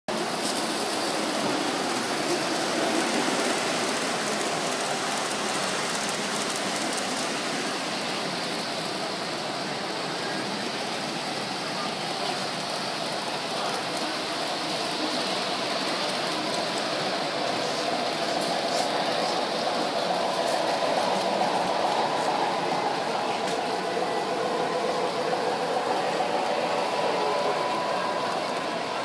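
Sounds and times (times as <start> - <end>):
model trains rattling on rails: 0.1 - 29.0.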